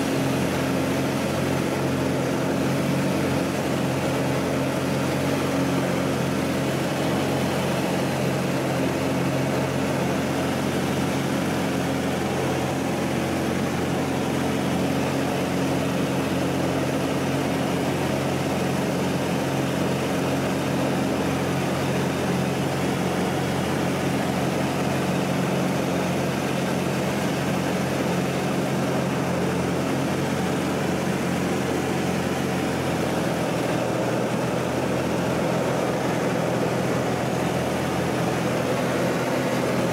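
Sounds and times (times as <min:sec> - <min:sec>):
propeller engine droning: 0:00.0 - 0:39.9.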